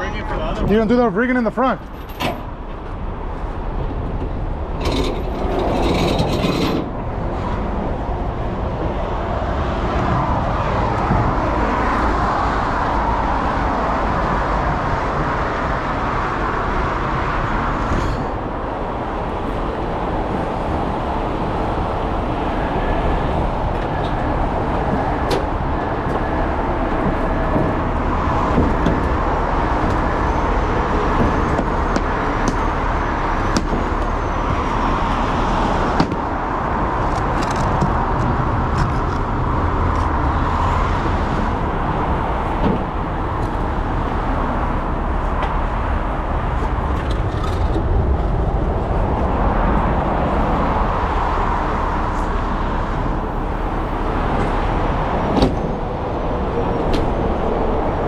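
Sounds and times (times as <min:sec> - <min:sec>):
heavy vehicle engines rumbling: 0:00.0 - 0:58.0.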